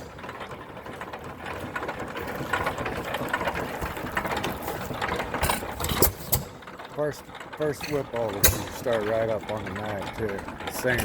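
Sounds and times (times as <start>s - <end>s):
heavy engine knocks: 0.0s - 11.0s
stationary engine clattering: 0.0s - 11.0s.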